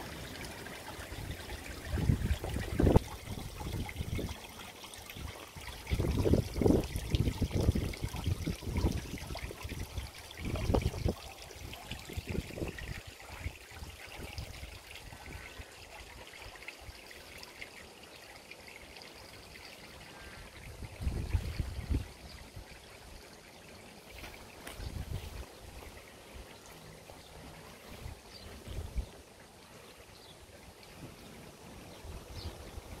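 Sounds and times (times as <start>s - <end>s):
trickle of running water: 0.0s - 33.0s.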